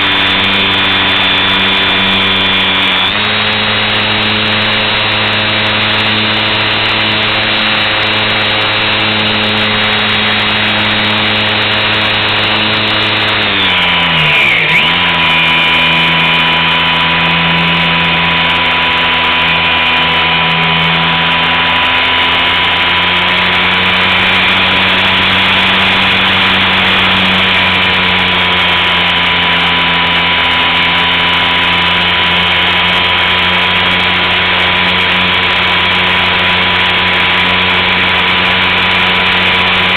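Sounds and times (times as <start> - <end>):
model plane motor whine: 0.0 - 39.9.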